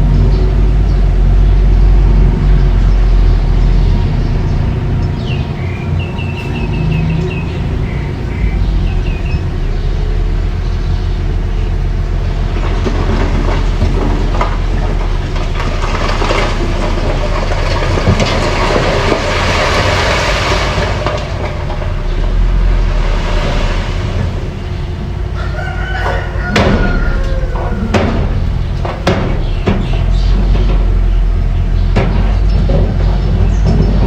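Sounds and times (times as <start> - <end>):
bulldozer engine rumbling: 0.0 - 34.0
tracks clattering: 0.0 - 34.0.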